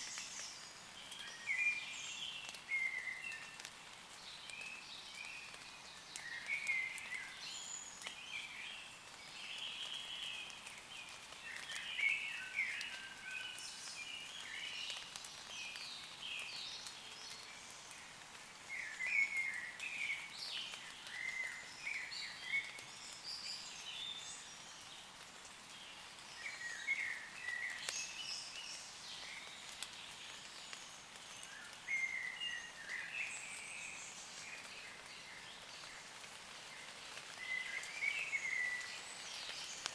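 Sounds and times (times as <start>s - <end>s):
light rain pattering on leaves: 0.0s - 39.9s.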